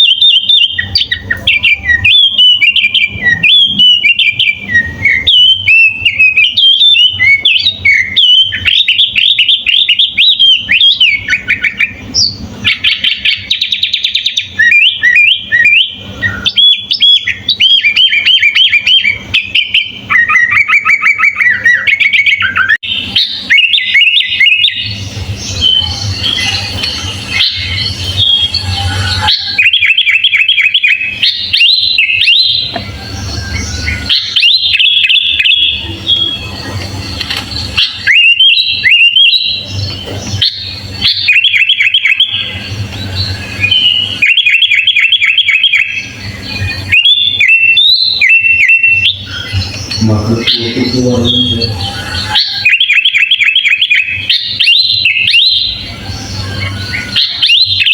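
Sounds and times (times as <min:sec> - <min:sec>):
bulbul singing: 0:00.0 - 0:57.9.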